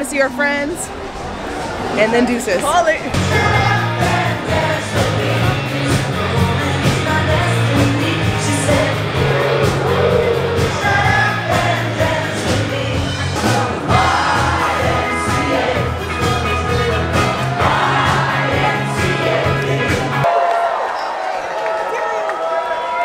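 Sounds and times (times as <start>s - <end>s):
amplified band music: 0.2s - 20.3s.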